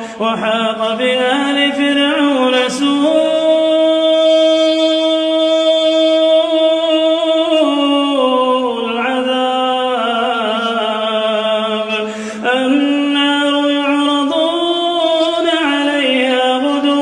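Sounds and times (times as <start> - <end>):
person reciting melodically: 0.0 - 17.0.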